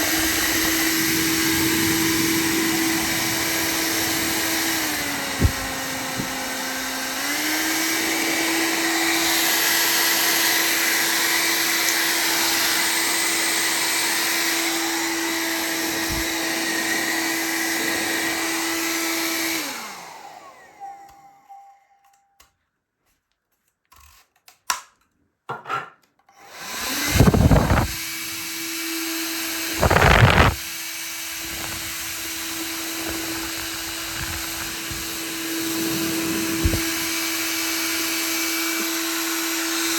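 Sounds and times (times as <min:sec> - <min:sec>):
hair dryer running: 0:00.0 - 0:21.9, 0:26.3 - 0:39.9.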